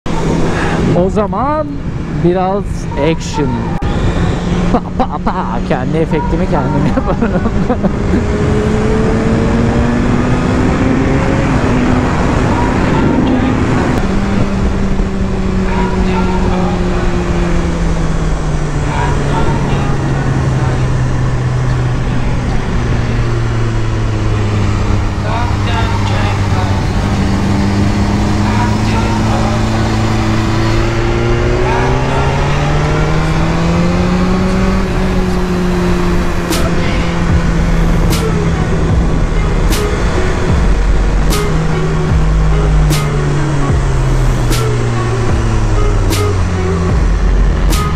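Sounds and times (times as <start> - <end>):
wind rush: 0.1 - 6.0, 6.8 - 47.9
motorcycle engine running: 0.1 - 47.9.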